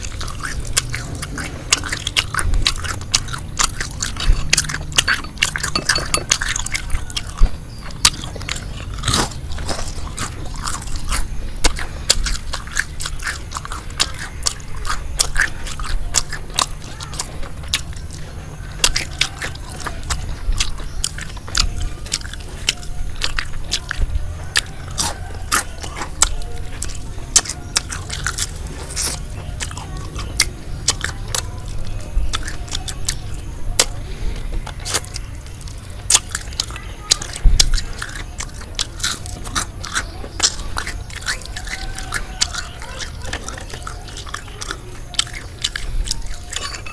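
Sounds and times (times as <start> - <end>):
crunchy chewing: 0.0 - 46.9.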